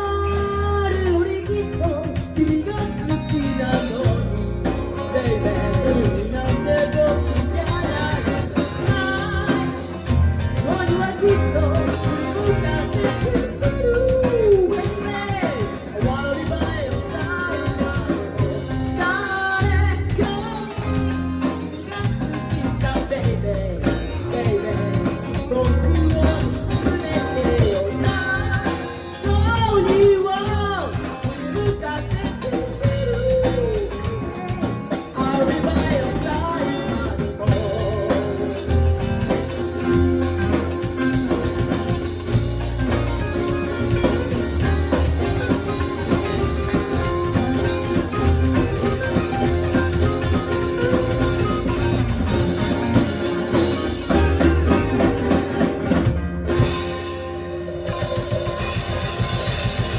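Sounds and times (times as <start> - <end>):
drum kit: 0.0 - 59.9
guitar: 0.0 - 59.9
person singing: 0.0 - 59.9.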